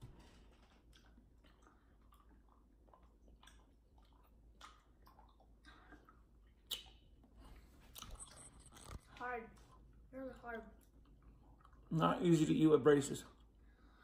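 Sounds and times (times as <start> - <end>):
chewing and crunching hard candy: 0.3 - 12.4.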